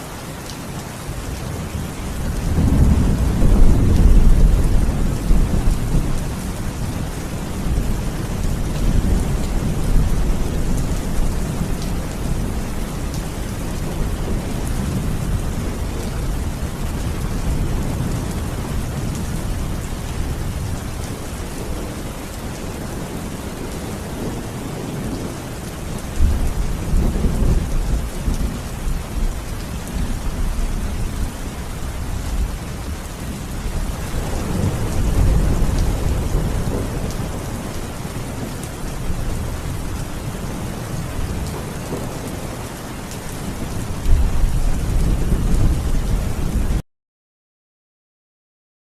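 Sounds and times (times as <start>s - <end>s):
steady rain: 0.0s - 46.8s
thunder rumbling: 1.4s - 46.8s.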